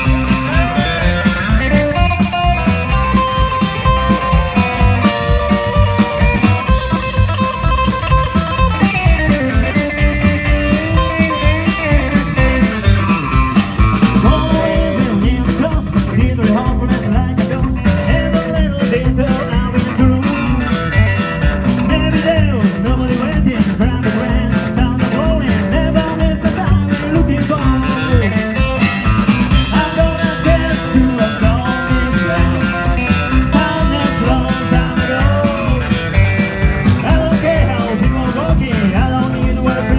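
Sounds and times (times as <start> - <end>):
drums: 0.0 - 39.9
electric guitar: 0.0 - 39.9
upright double bass: 0.0 - 39.9.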